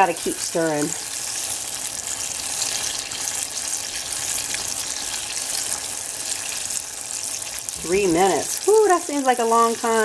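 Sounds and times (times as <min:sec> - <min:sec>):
butter and sugar sizzling in pan: 0:00.0 - 0:10.0.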